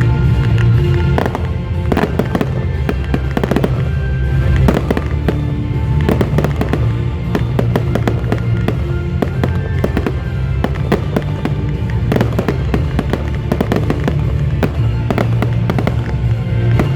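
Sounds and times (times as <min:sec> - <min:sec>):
fireworks bangs and crackles: 0:00.0 - 0:16.9
music with heavy bass: 0:00.0 - 0:16.9.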